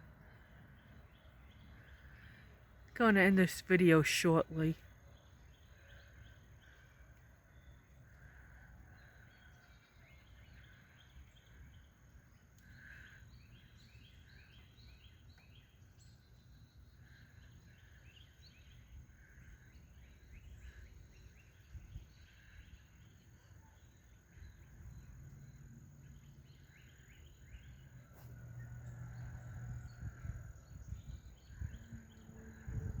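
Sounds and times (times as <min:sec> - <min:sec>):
small birds chirping: 0:00.1 - 0:33.0.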